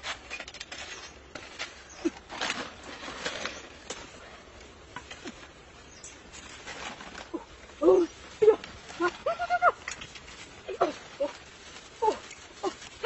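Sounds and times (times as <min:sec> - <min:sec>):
plants rustling and snapping: 0:00.0 - 0:13.0.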